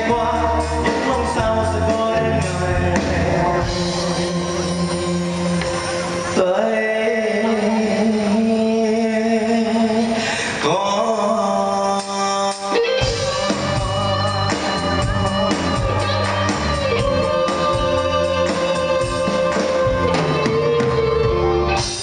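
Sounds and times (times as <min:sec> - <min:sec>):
bass: 0:00.0 - 0:22.0
drums: 0:00.0 - 0:22.0
electric guitars: 0:00.0 - 0:22.0
man singing into microphone: 0:00.0 - 0:22.0.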